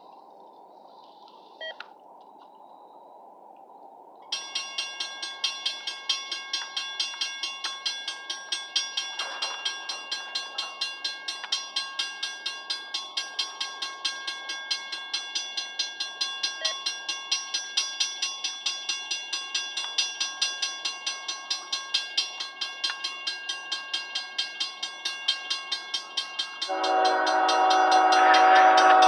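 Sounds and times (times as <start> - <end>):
railroad crossing bell ringing: 4.2 - 29.0.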